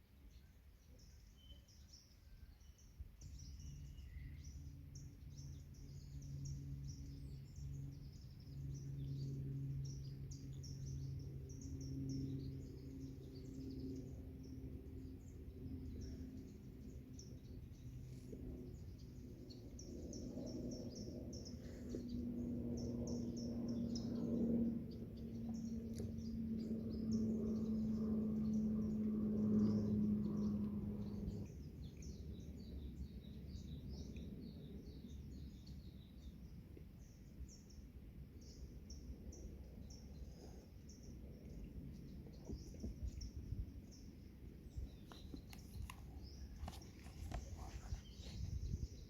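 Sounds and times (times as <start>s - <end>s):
low steady drone: 0.1s - 49.0s
small birds chirping: 0.3s - 49.0s.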